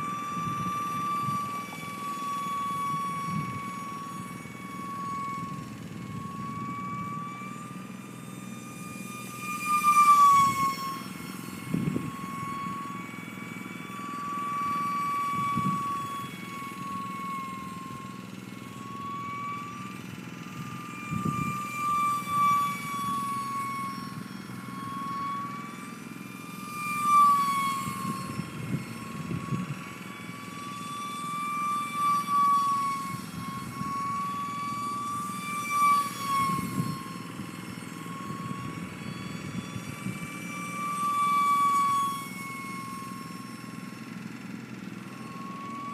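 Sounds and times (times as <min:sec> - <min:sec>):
electric ducted fan whining: 0:00.0 - 0:45.9.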